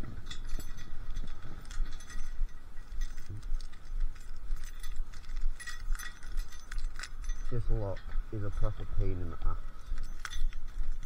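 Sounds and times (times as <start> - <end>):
keys jangling: 0.0 - 11.0
small metal parts clinking: 0.0 - 11.0.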